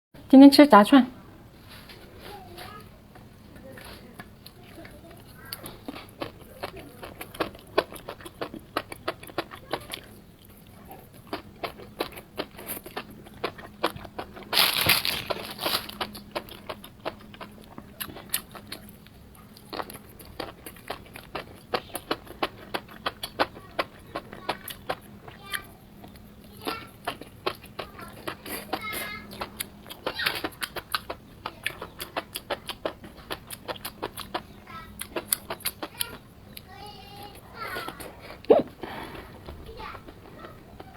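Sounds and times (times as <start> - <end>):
crisp crunching chewing: 2.6 - 40.9.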